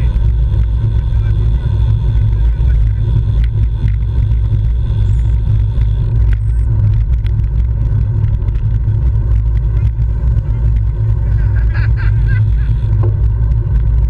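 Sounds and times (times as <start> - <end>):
road noise: 0.0 - 14.0
small clicks and ticks: 0.0 - 14.0.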